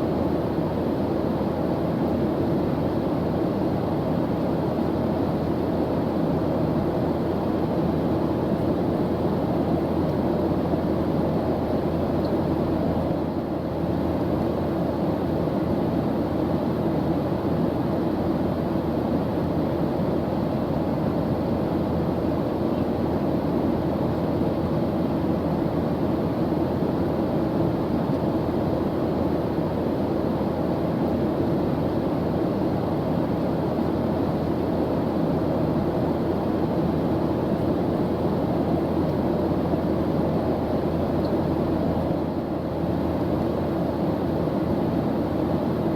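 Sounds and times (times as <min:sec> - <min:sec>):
airplane engine drone: 0:00.0 - 0:45.9.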